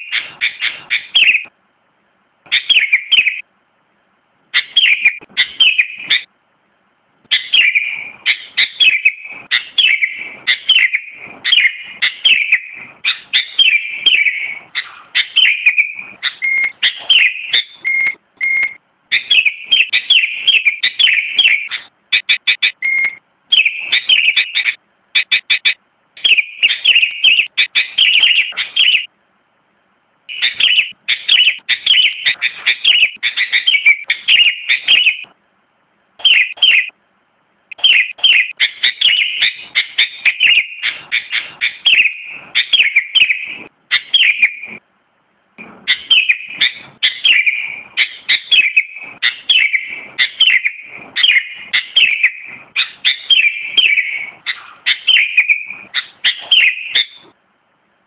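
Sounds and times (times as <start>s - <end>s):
bird singing chirpy whistles: 0.0s - 1.5s, 2.5s - 3.4s, 4.6s - 6.3s, 7.3s - 29.1s, 30.3s - 35.3s, 36.2s - 36.9s, 37.7s - 44.8s, 45.9s - 57.2s.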